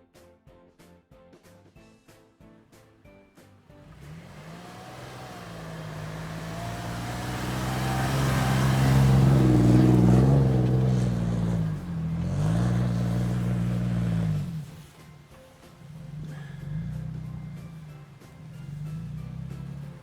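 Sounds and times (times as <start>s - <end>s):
engine revving hard: 3.8s - 20.0s.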